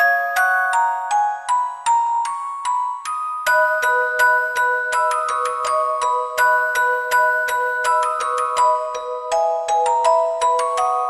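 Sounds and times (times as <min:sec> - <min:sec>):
bell-like melody: 0:00.0 - 0:11.0.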